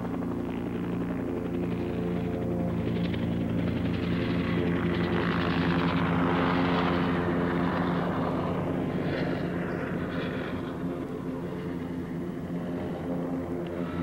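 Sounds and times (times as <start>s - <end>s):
helicopter flying past: 0.0s - 14.0s.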